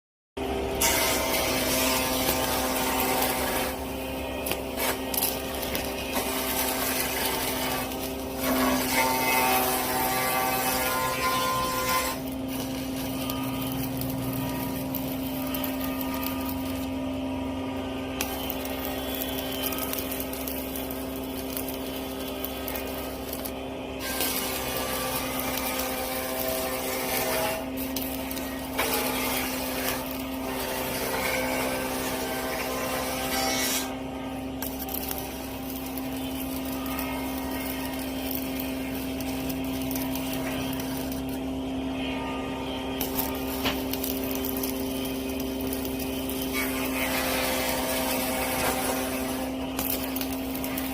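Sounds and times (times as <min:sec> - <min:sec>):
machine hum: 0:00.4 - 0:50.9.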